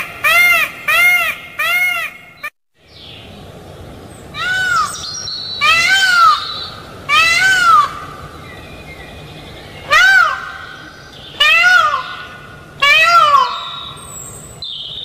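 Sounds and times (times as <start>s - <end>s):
peacock calling: 0.0s - 3.4s, 4.2s - 15.0s.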